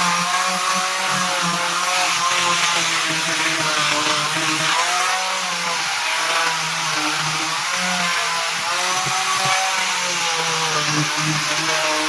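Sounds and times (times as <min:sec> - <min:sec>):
power tool cutting wood: 0:00.0 - 0:12.0.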